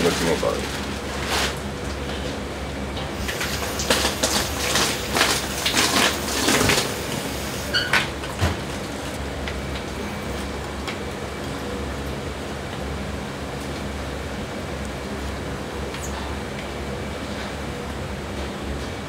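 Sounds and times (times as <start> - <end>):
low kitchen hum: 0.0 - 19.0.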